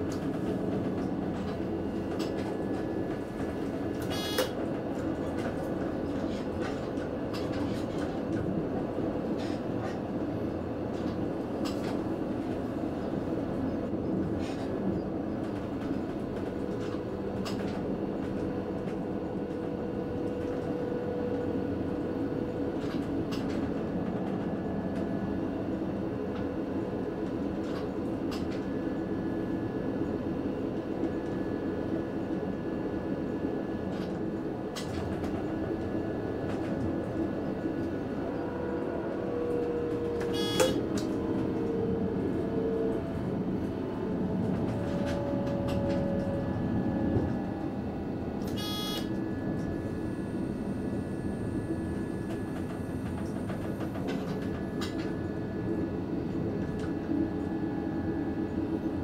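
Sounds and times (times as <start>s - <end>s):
train running rumble and hum: 0.0s - 59.0s.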